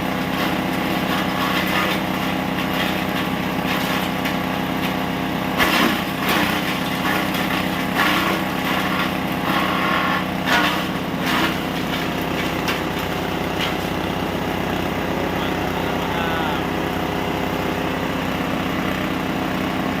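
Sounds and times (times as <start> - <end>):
feed chopping machine running: 0.0 - 20.0.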